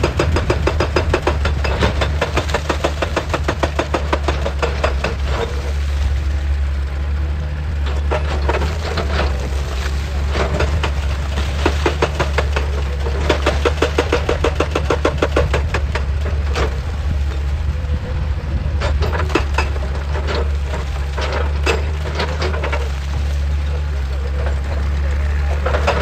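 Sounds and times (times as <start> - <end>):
excavator engine droning: 0.0 - 26.0.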